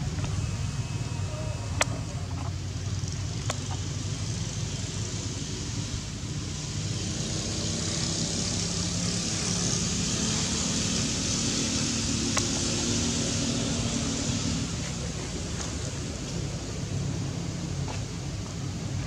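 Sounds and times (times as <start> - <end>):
faint low engine hum: 0.0 - 19.0
outdoor background noise: 0.0 - 19.0.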